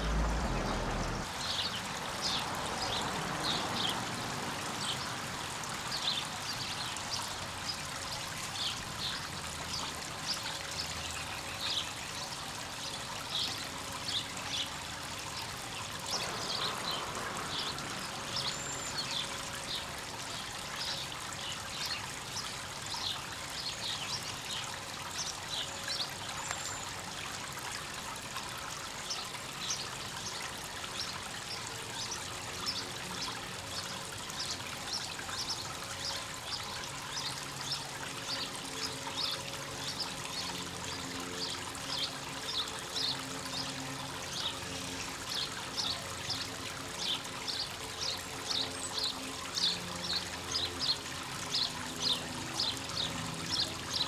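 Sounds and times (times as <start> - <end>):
small waterfall trickling over stones: 0.0 - 54.0.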